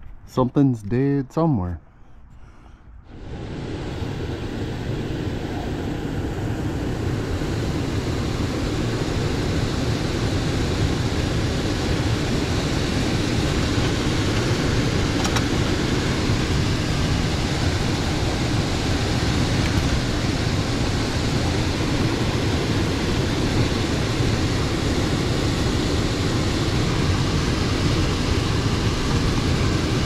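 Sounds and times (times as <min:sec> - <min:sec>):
air blower rushing: 0:03.0 - 0:30.0.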